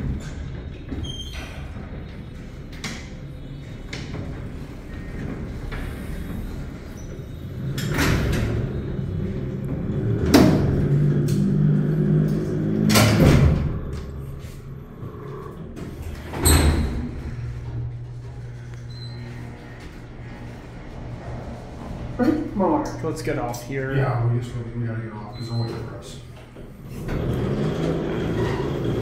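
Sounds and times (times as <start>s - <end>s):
elevator doors closing: 0.0s - 29.0s
low mechanical rumble: 1.8s - 29.0s.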